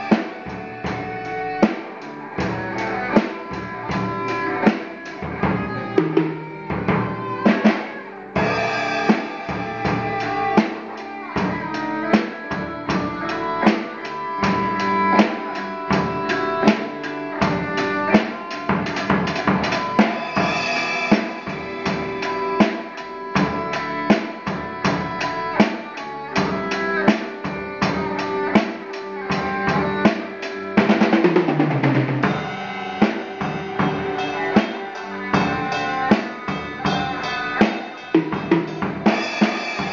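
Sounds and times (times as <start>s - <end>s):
drum kit rock beat: 0.0s - 39.9s
sustained band instrument notes: 0.0s - 39.9s.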